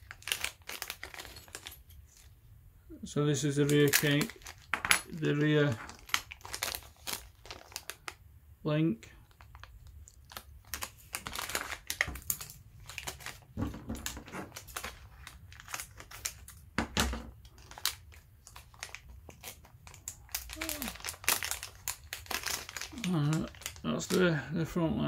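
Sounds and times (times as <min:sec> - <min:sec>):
plastic bag crinkling: 0:00.0 - 0:02.3, 0:03.5 - 0:08.2, 0:09.2 - 0:24.5.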